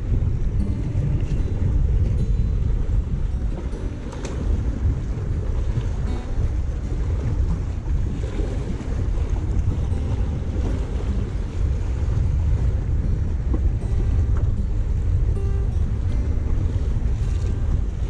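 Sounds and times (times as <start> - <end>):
choppy sea waves washing: 0.0 - 18.0
wind buffeting microphone: 0.0 - 18.0.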